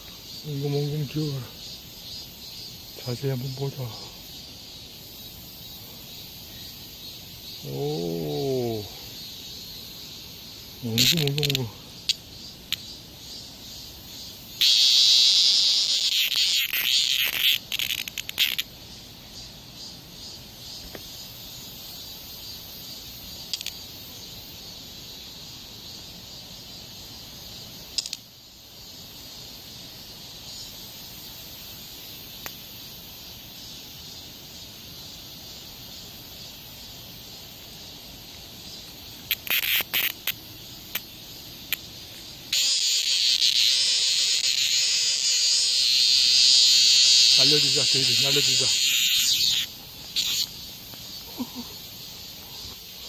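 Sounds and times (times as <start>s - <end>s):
quiet steady hiss: 0.0s - 14.6s, 15.4s - 53.0s
cicada buzzing: 0.0s - 53.0s.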